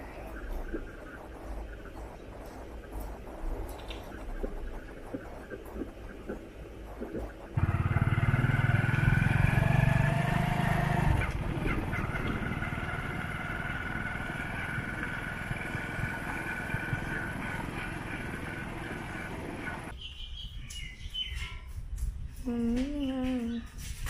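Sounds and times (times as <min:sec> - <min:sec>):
motorcycle engine running: 0:00.0 - 0:19.9
high whine: 0:00.0 - 0:20.0.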